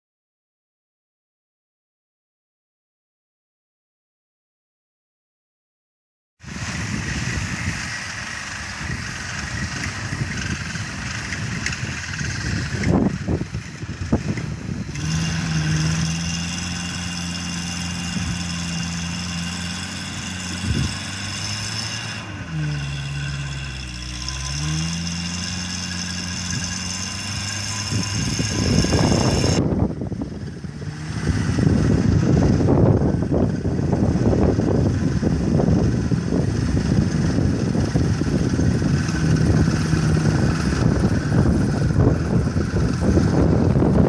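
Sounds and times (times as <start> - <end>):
car engine running: 6.5 - 44.0
electric winch whining: 6.5 - 44.0.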